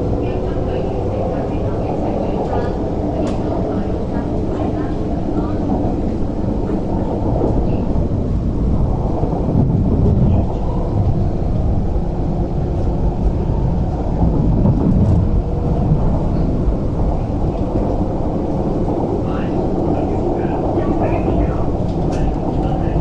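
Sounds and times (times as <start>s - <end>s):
train rumble inside car: 0.0s - 23.0s.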